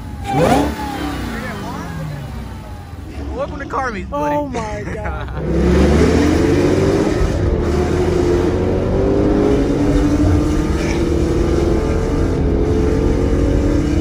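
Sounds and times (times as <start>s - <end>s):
car engine under full throttle: 0.0s - 14.0s.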